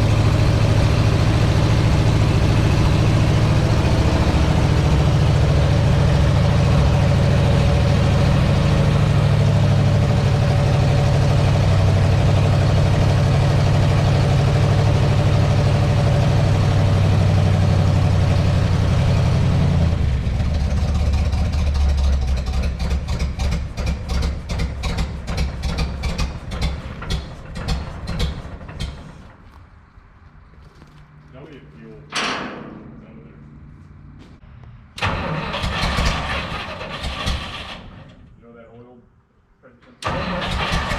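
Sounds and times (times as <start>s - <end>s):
truck engine idling: 0.0s - 38.4s, 40.0s - 40.9s.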